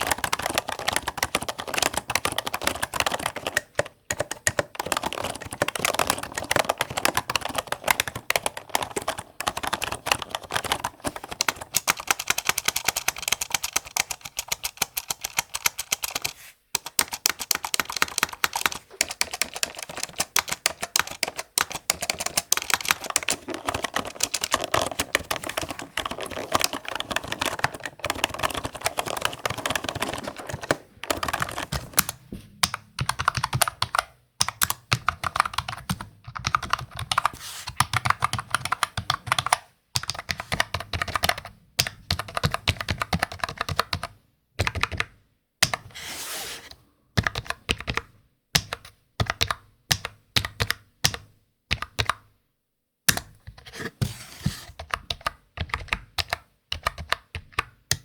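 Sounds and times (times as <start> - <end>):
typing on computer keyboard: 0.0 - 45.9, 47.2 - 52.3, 54.7 - 58.0.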